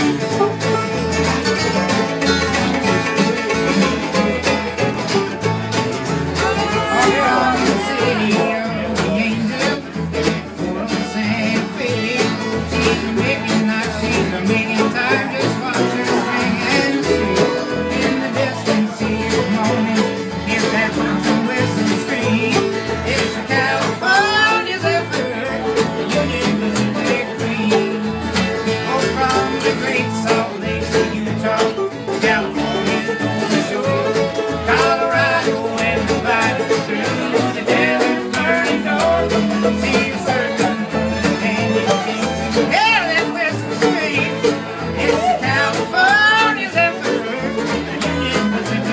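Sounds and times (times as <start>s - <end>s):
acoustic string band playing: 0.0s - 48.9s.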